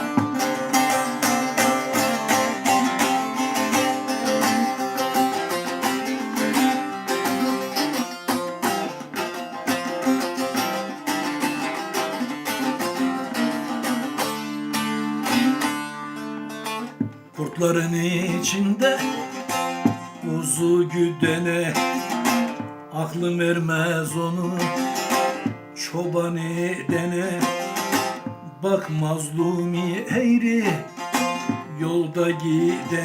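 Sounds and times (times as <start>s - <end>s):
plucked string instrument melody: 0.0s - 33.0s.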